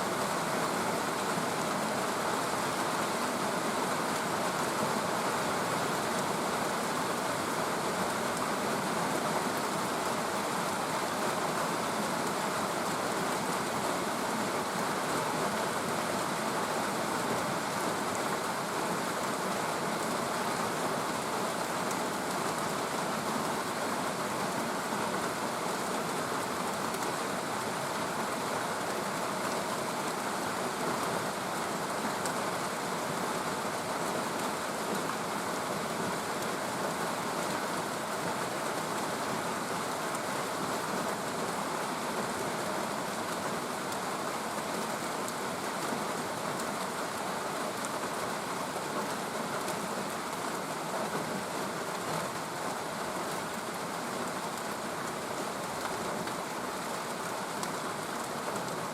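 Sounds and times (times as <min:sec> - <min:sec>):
rain pattering: 0:00.1 - 0:58.9.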